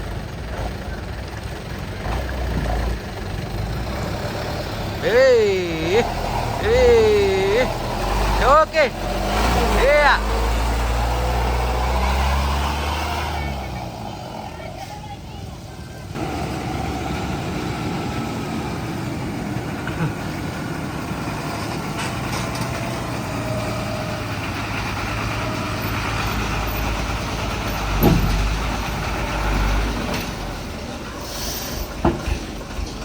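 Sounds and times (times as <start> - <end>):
truck engine rumbling: 0.0 - 33.0.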